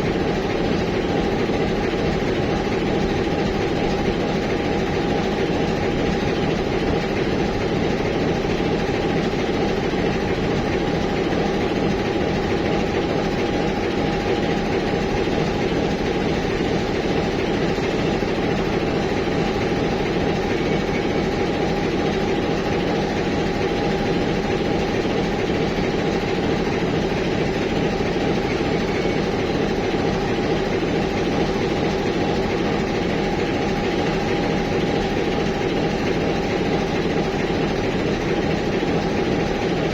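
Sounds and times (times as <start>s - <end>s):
diesel locomotive engine running: 0.0s - 39.9s.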